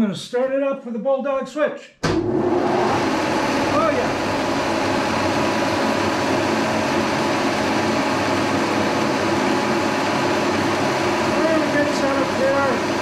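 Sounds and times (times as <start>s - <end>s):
milling machine whirring: 2.0s - 13.0s.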